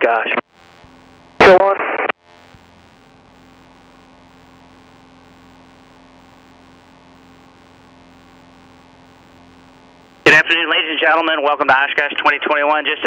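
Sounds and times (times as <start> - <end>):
headset intercom hum with hiss: 0.0 - 13.0.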